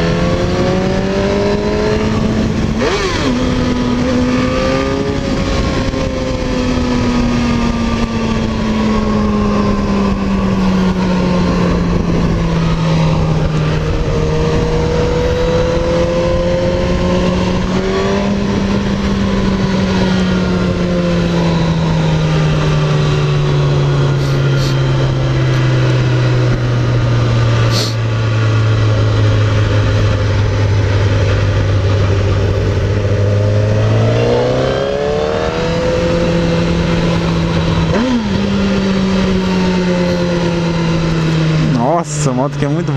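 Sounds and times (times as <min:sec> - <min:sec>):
motorcycle engine: 0:00.0 - 0:42.9
wind rush: 0:00.0 - 0:42.9.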